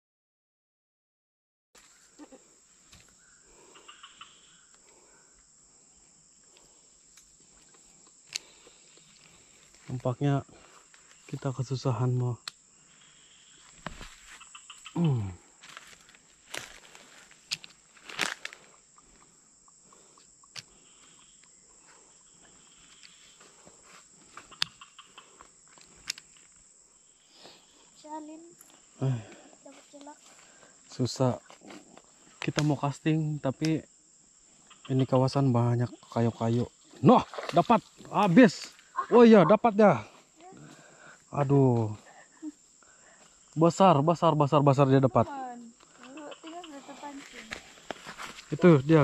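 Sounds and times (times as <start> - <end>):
faint chirps: 1.8 - 49.0
insects droning: 1.8 - 49.0.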